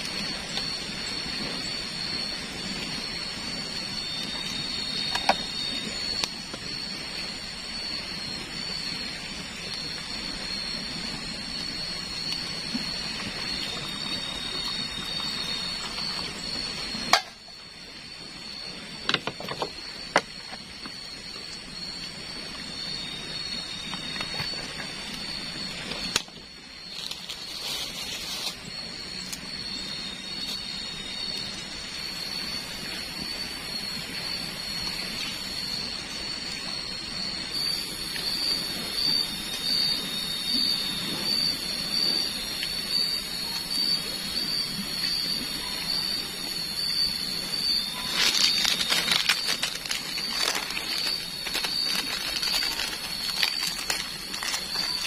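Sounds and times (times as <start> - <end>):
high-pitched whine: 0.0 - 55.0
rain hiss: 0.0 - 55.0.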